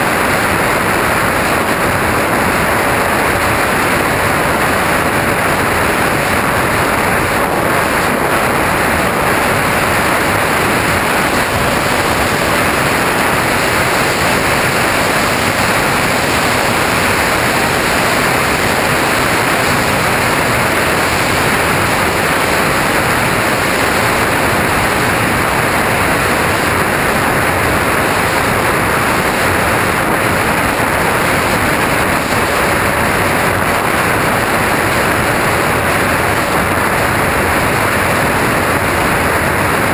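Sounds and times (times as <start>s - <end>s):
propeller noise: 0.0s - 39.9s
rushing wind: 0.0s - 39.9s.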